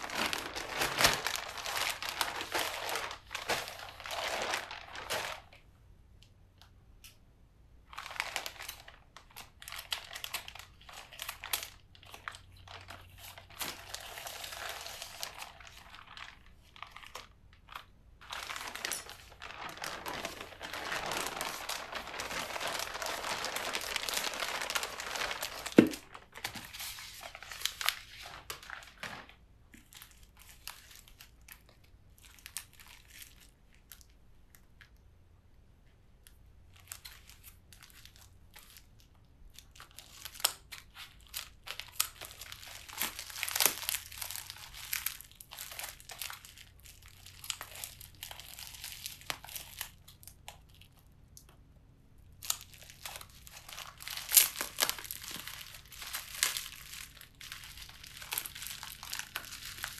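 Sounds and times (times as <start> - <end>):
plastic packaging crinkling and tearing: 0.0 - 5.7, 7.8 - 34.2, 36.2 - 51.5, 52.4 - 59.9.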